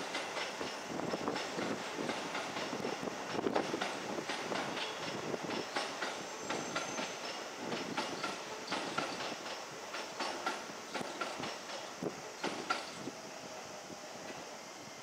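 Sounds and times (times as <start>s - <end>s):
train wheels clacking over rail joints: 0.0s - 13.1s.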